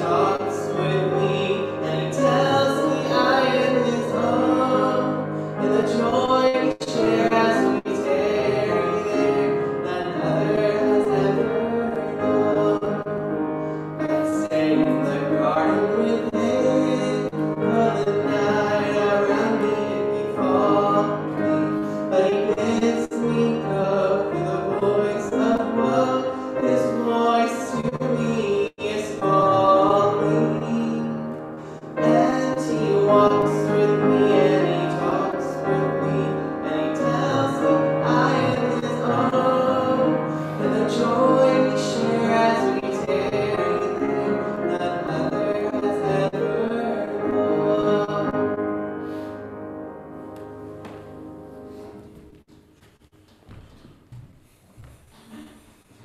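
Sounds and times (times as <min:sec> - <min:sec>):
person singing a hymn: 0:00.0 - 0:52.2
piano playing: 0:00.0 - 0:52.5.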